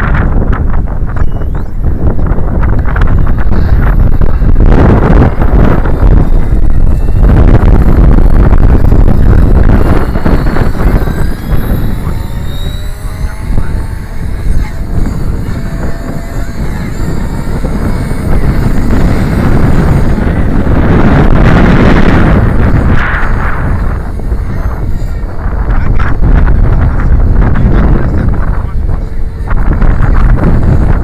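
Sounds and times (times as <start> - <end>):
rc helicopter motor whine: 0.0 - 31.0
wind buffeting microphone: 0.0 - 31.0.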